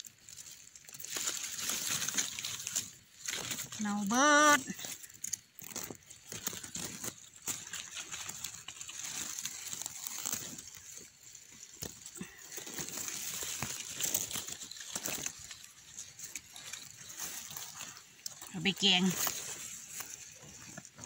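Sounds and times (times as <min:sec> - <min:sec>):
dry leaves rustling and crackling: 0:00.0 - 0:21.0.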